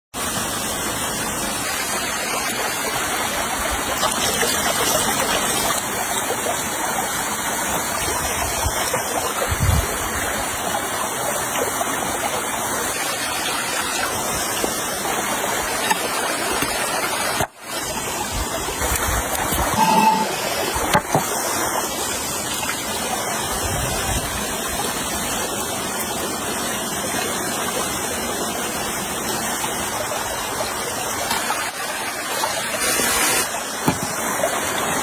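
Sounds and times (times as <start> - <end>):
stream water rushing: 0.2 - 35.0.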